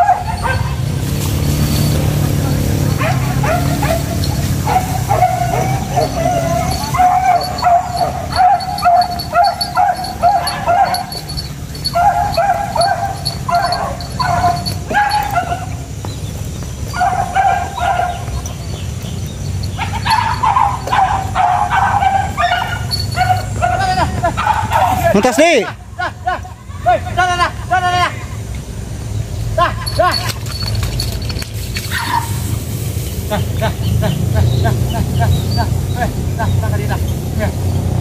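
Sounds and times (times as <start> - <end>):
hunting dogs yelping and baying: 0.0 - 26.0, 29.5 - 38.0.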